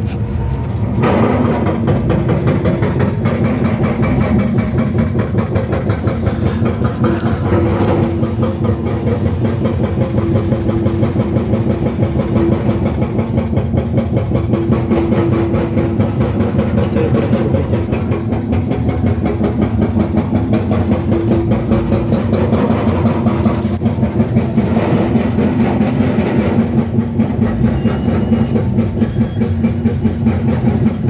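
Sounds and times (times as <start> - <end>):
diesel engine running: 0.0 - 31.0
hydraulic breaker hammering: 0.6 - 31.0.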